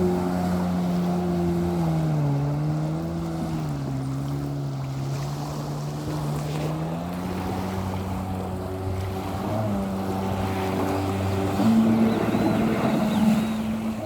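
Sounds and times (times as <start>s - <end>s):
personal watercraft engine running: 0.0s - 14.0s.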